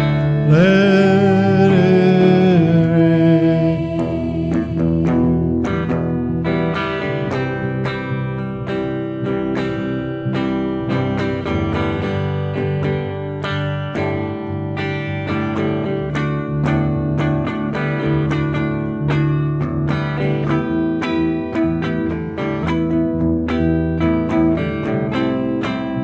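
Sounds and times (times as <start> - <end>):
strummed guitar chords: 0.0 - 26.0.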